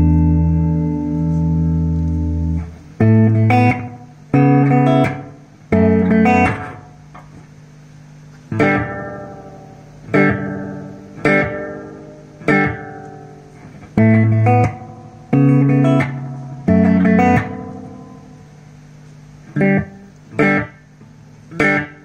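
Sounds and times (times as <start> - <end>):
guitar chords with pitch bending: 0.0 - 7.5, 8.4 - 22.0.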